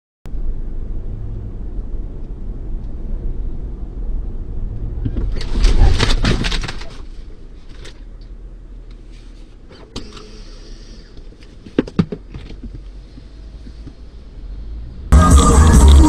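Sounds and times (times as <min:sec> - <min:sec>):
car cabin rumble: 0:00.3 - 0:14.5.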